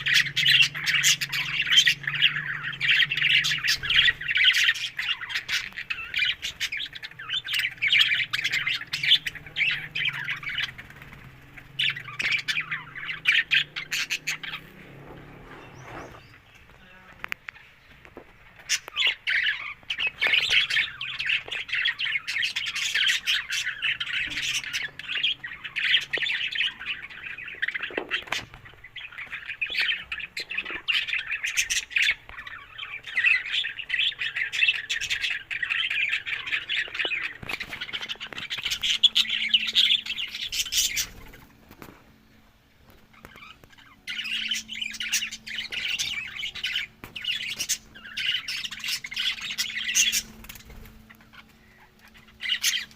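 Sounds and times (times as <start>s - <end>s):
budgerigars chattering: 0.0s - 15.0s, 18.6s - 41.6s, 43.0s - 52.9s.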